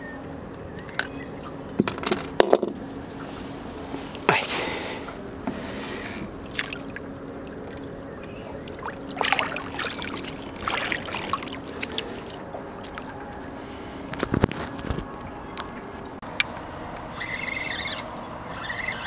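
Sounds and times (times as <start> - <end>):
water splashing and sloshing: 0.3 - 19.0.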